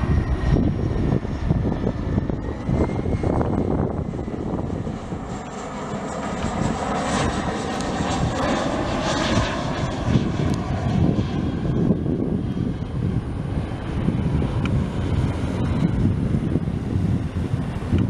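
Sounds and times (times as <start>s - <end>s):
jet plane passing low: 0.0s - 18.0s.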